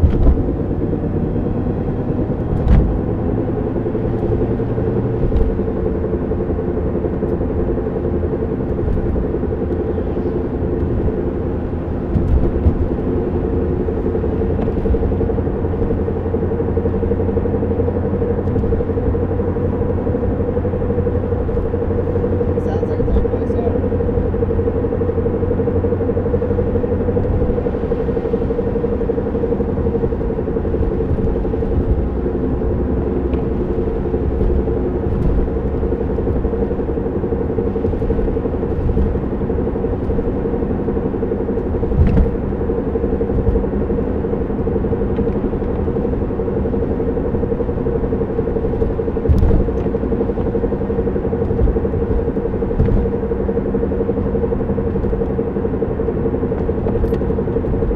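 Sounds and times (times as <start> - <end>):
car driving drone: 0.0 - 57.9.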